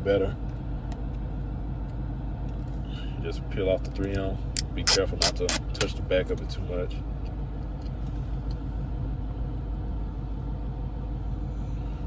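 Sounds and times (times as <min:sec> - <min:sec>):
car engine idling from cabin: 0:00.0 - 0:12.0.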